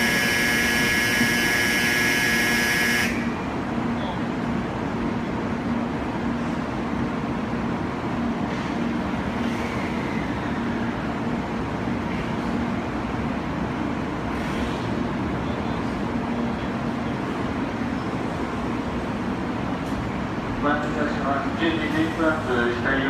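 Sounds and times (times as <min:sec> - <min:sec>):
train equipment whirring with low hum: 0:00.0 - 0:23.0.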